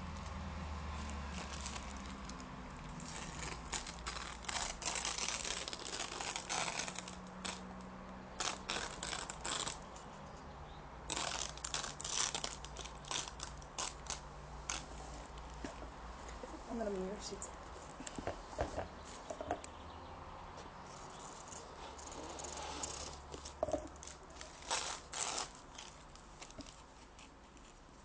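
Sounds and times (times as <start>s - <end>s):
crinkling handling sounds: 0.9s - 10.4s, 11.1s - 19.7s, 20.5s - 28.0s.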